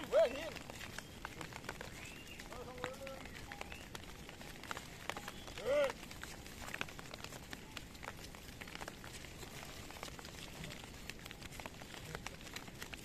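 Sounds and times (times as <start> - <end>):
hooves striking stones: 0.0 - 13.0.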